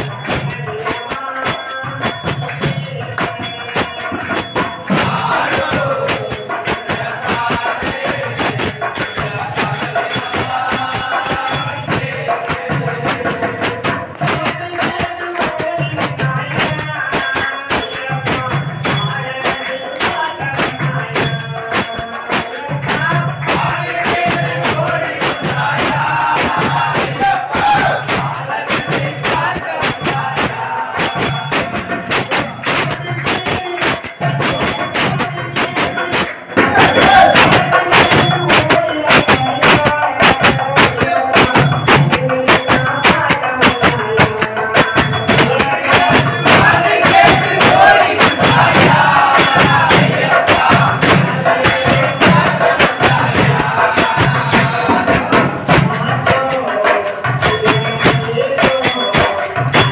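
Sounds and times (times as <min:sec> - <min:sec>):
group of men singing: 0:00.0 - 0:59.9
hand drum: 0:00.0 - 0:59.9
jingling percussion: 0:00.0 - 0:59.9.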